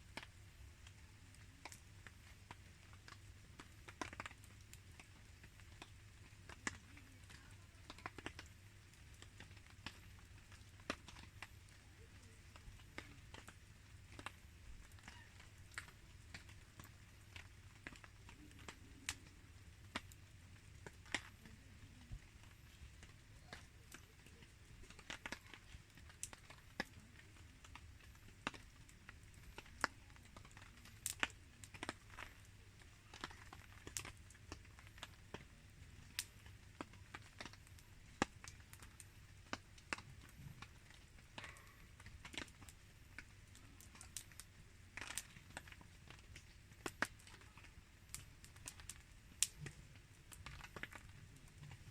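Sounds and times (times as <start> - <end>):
faint steady hiss: 0.0 - 51.9
wood fire crackling: 0.0 - 51.9.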